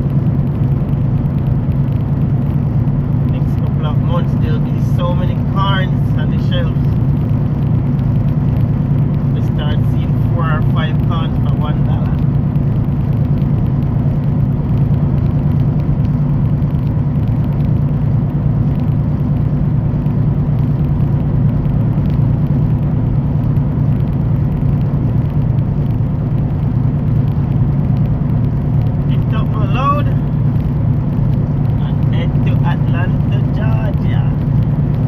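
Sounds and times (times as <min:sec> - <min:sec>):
truck engine drone: 0:00.0 - 0:35.0.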